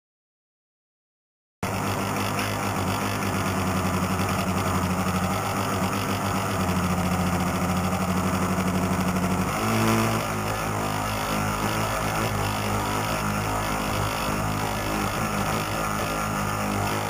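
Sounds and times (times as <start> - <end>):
boat motor humming: 1.6 - 17.0.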